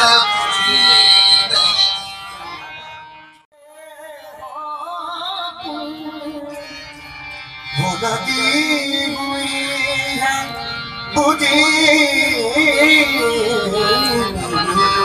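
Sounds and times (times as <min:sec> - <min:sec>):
harmonium chords: 0:00.0 - 0:15.0.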